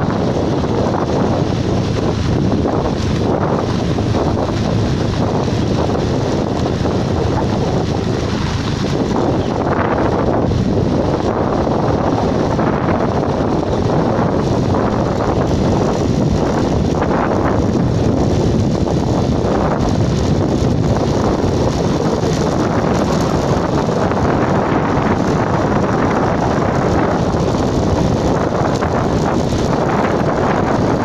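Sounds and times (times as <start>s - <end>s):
wind buffeting microphone: 0.0s - 31.0s
tyres rolling on gravel: 0.3s - 31.0s.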